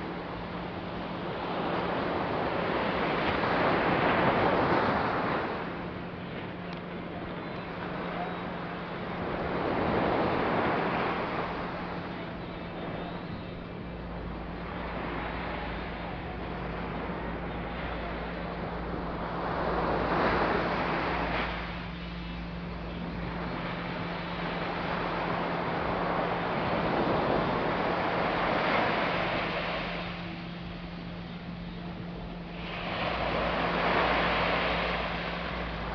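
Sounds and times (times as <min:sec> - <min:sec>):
surf washing onto beach: 0:00.0 - 0:35.9
wave breaking: 0:00.0 - 0:35.9.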